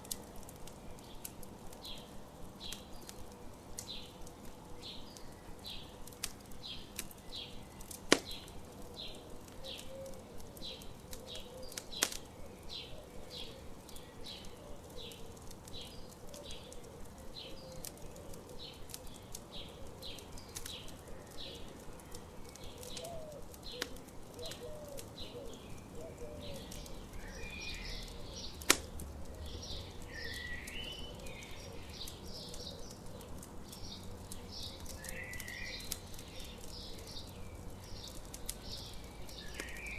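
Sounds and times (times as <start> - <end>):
campfire crackling and popping: 0.0 - 39.9
bird warbling song: 6.6 - 28.7, 29.4 - 39.9.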